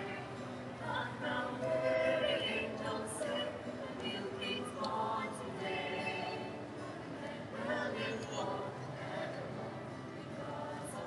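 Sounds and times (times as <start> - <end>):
mixed choir singing a carol: 0.0 - 11.0.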